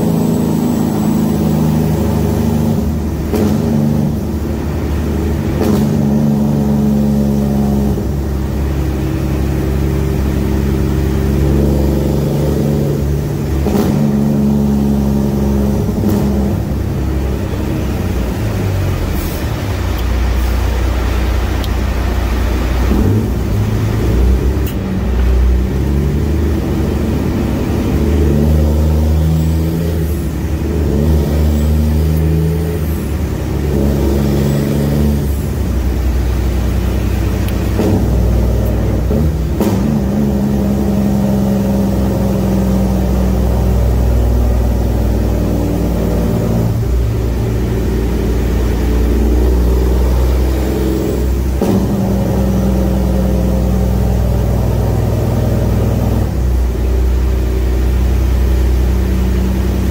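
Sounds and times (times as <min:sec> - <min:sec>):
loud diesel truck engine: 0:00.0 - 0:59.9.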